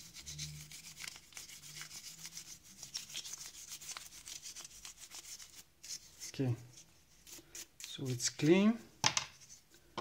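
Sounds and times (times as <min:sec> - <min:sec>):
toothbrush scrubbing plastic and metal: 0:00.0 - 0:08.7.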